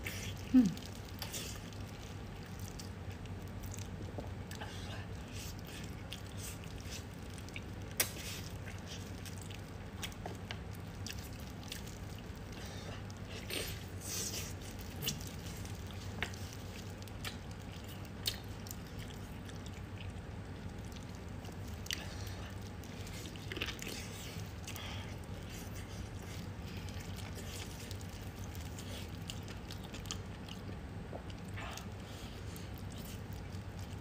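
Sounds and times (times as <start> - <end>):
steady low hum: 0.0 - 34.0
wet chewing: 0.0 - 34.0.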